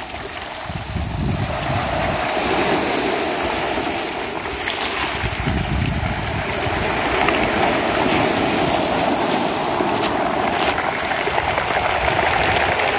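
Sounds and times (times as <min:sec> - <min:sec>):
waves washing over pebbles: 0:00.0 - 0:12.9
wind buffeting microphone: 0:00.0 - 0:12.9.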